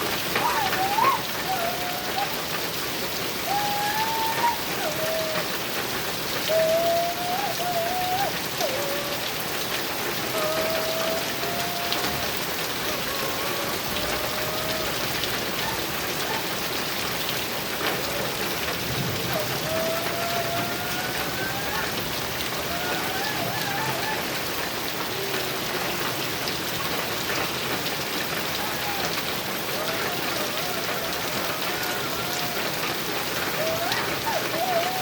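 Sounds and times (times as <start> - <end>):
heavy rain on a metal roof: 0.0 - 35.0.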